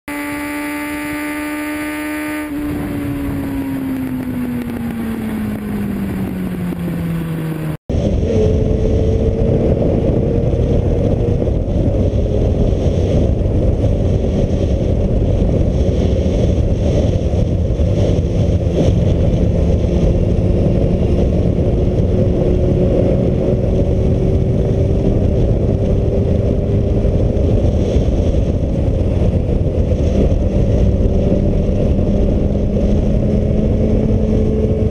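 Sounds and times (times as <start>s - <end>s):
faint motorcycle engine: 0.1s - 34.9s
wind buffeting microphone: 2.4s - 34.9s.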